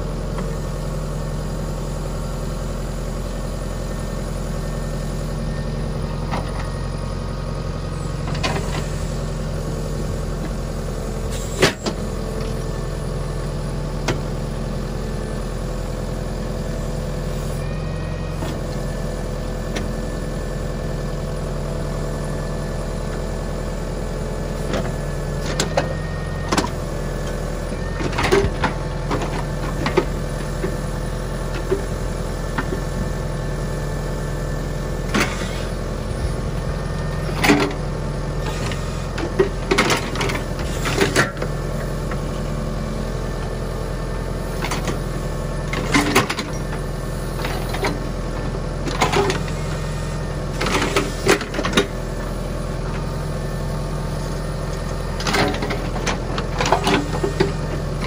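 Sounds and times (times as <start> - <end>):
tractor diesel engine running: 0.0 - 58.0
backhoe clanks and knocks: 3.2 - 58.0.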